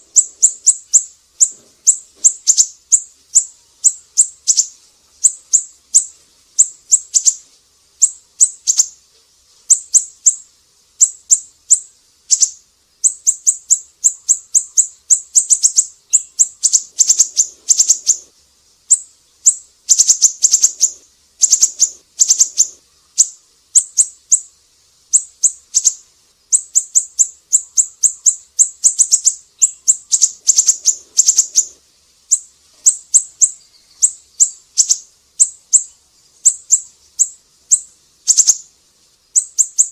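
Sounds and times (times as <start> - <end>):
bird chirping: 0.0 - 9.0, 9.6 - 39.9.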